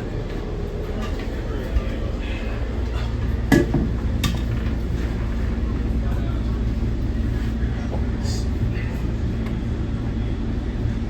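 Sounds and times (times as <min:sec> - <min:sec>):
train engine rumble and hum: 0:00.0 - 0:11.0.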